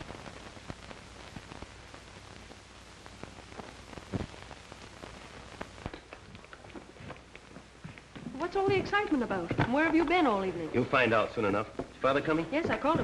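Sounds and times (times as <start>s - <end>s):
crackles and pops: 0.0s - 13.0s
film soundtrack hiss: 0.0s - 13.0s.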